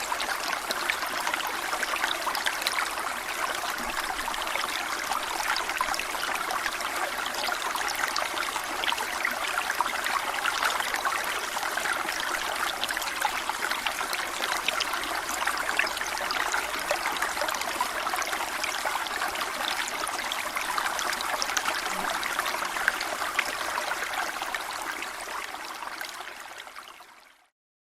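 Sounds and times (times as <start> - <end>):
stream babbling over stones: 0.0 - 27.1.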